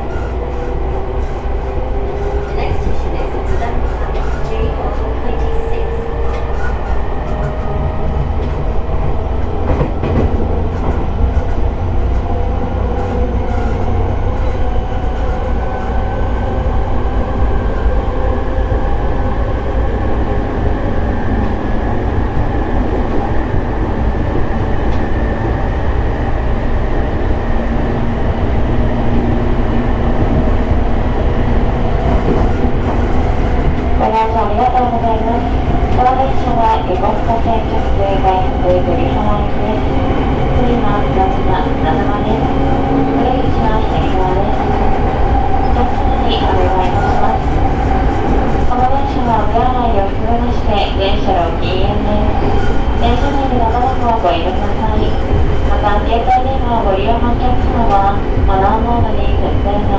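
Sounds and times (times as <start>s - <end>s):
rail joint clicks: 0.0s - 59.9s
train wheels rumbling on rail: 0.0s - 59.9s.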